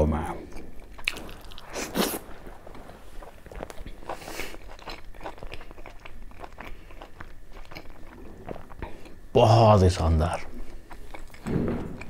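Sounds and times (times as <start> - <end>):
person chewing with wet crunches: 0.2 - 12.0.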